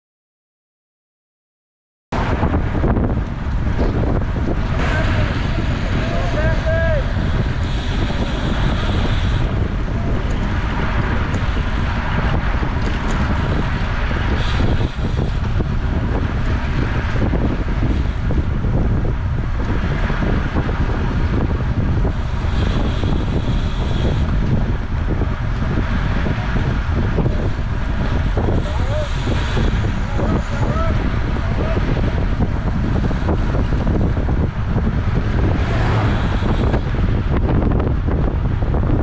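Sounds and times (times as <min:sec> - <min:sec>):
tyre and road noise: 0:02.1 - 0:39.0
wind buffeting microphone: 0:02.2 - 0:39.0.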